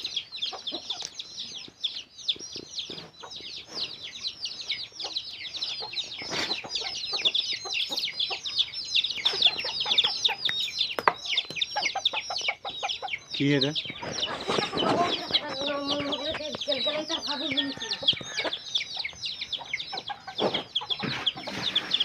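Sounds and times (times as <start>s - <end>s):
parrots chirping and chattering: 0.0s - 22.0s.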